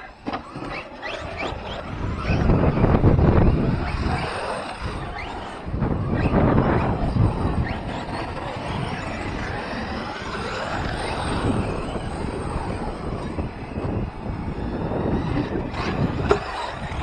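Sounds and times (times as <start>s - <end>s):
toy truck motors whining: 0.0s - 17.0s
tyres and wind rushing: 0.0s - 17.0s.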